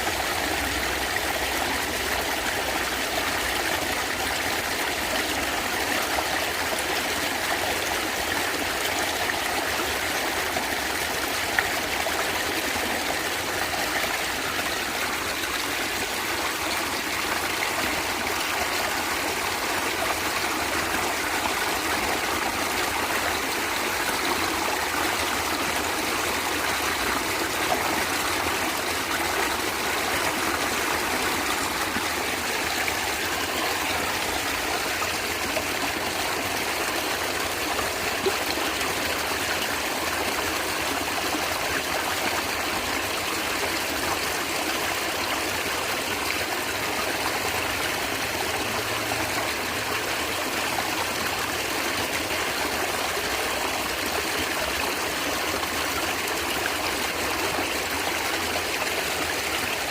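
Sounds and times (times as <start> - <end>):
stream gurgling over stones: 0.0 - 59.9.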